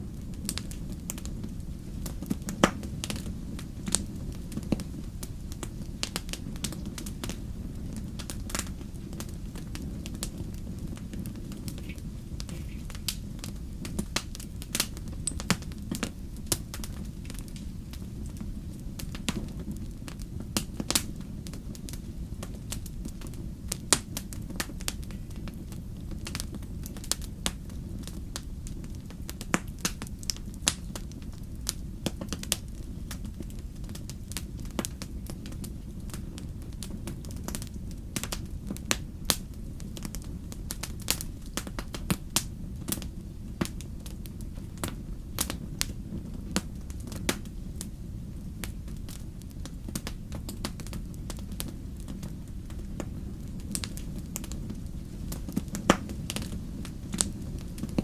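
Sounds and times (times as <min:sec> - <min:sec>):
campfire burning: 0:00.0 - 0:58.0.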